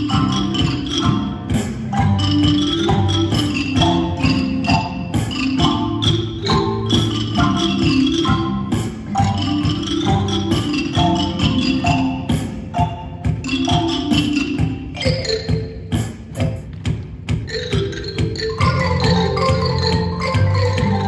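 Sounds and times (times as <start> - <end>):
pitched percussion ensemble: 0.0 - 21.0.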